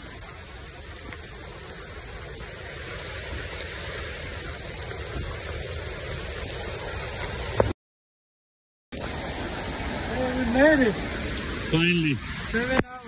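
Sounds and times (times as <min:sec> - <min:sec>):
heavy rain on foliage: 0:00.0 - 0:07.8, 0:08.9 - 0:13.0.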